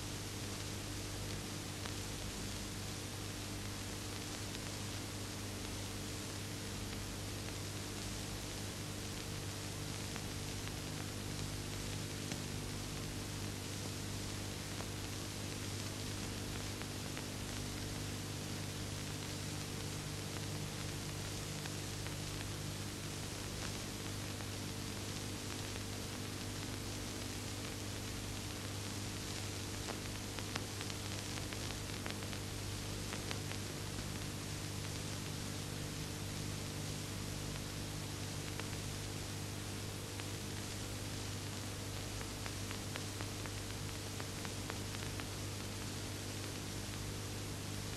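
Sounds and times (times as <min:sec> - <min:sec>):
film soundtrack hiss and hum: 0:00.0 - 0:47.9.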